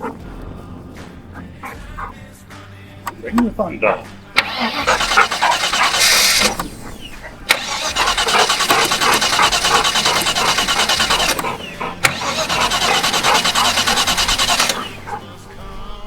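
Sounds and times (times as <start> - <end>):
engine cranking with starter: 0.0 - 16.0.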